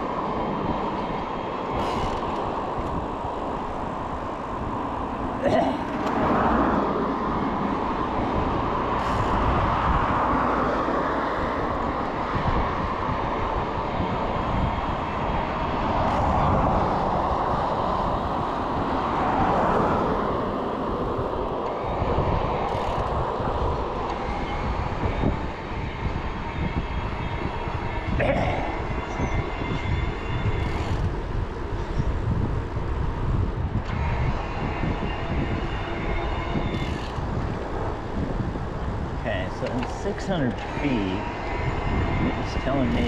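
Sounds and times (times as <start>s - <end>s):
road noise: 0.0s - 43.0s
wind rushing: 6.0s - 43.0s.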